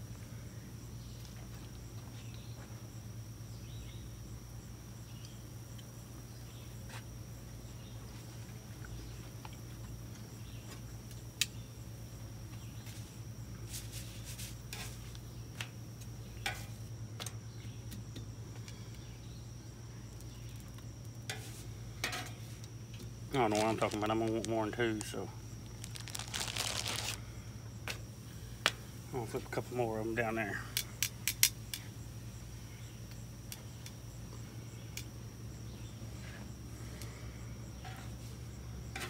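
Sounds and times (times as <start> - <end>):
insect trill: 0.0 - 39.0.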